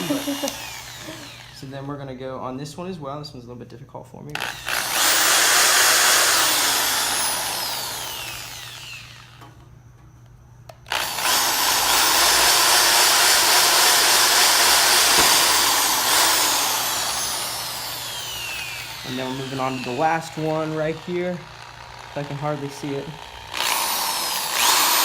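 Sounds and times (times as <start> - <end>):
power drill drilling: 0.0 - 1.8, 4.4 - 9.4, 10.9 - 25.0.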